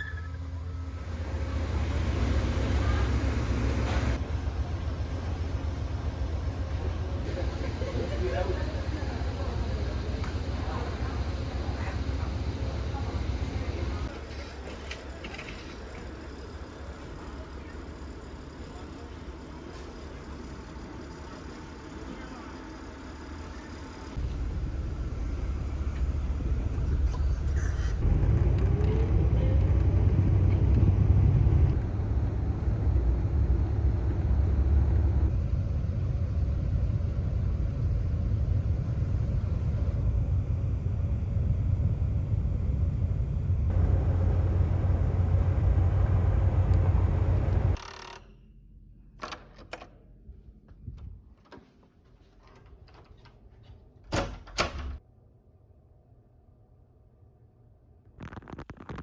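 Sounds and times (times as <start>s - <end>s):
low vehicle rumble: 0.0s - 47.8s.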